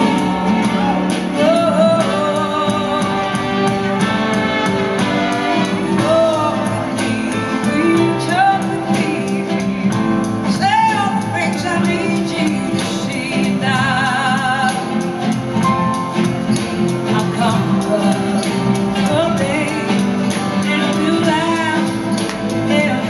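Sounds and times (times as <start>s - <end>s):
bass guitar: 0.0s - 23.0s
drums: 0.0s - 23.0s
guitars: 0.0s - 23.0s
person singing: 0.0s - 23.0s.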